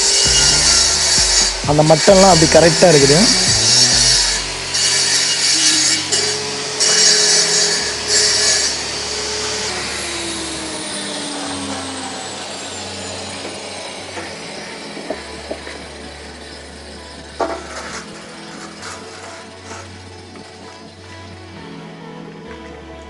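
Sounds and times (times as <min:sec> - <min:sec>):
power cutter slicing brick: 0:00.0 - 0:21.0
motor winding down whine: 0:00.0 - 0:21.7.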